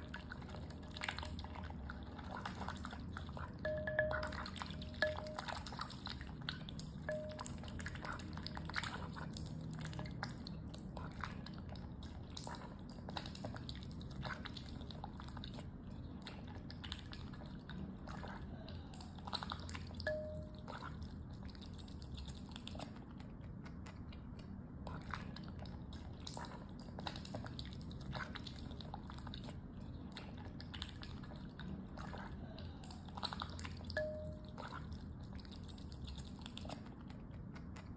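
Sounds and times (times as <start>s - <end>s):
wet clicks drips and slurps: 0.0s - 37.9s.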